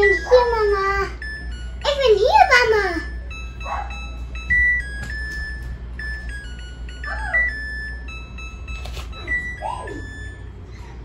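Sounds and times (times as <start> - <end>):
washing machine beeped melody: 0.0 - 11.0.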